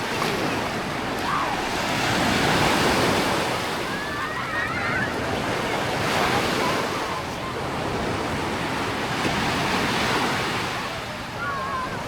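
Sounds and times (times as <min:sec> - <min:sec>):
small waves washing on sand: 0:00.0 - 0:12.0.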